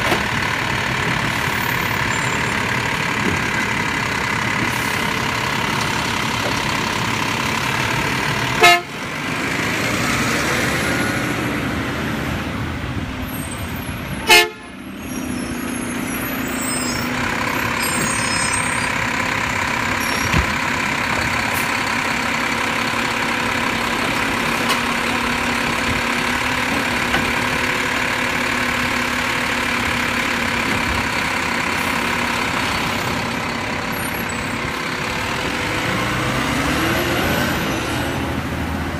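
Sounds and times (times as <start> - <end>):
truck engine and hydraulics: 0.0 - 38.9.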